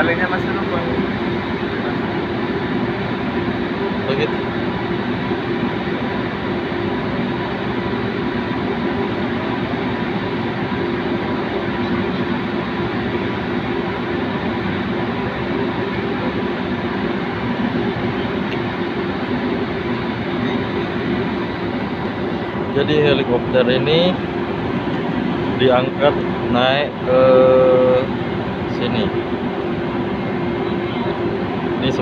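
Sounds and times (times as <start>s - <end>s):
faint higher hum: 0.0s - 32.0s
heavy machinery low hum: 0.0s - 32.0s.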